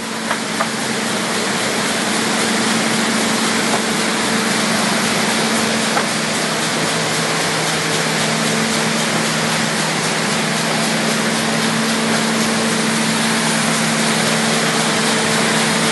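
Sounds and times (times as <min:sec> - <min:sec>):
constant machine hum: 0:00.0 - 0:15.9
loud steady machine noise: 0:00.0 - 0:15.9.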